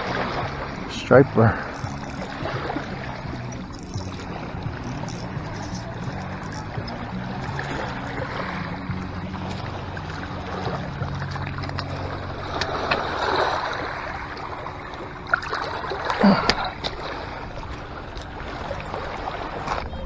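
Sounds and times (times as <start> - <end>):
fish flopping: 0.0 - 19.9
water splashing in rocky shallows: 0.0 - 20.0.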